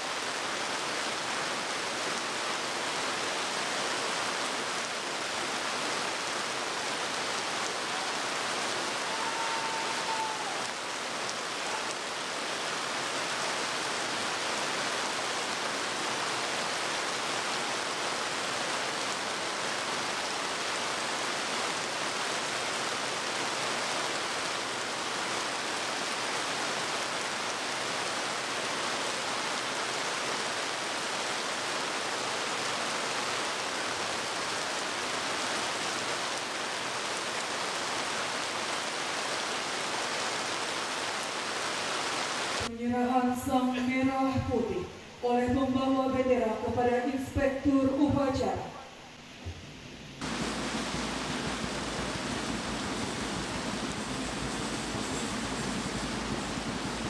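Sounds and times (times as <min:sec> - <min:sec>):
heavy rain on pavement: 0:00.0 - 0:42.7, 0:49.4 - 0:57.0.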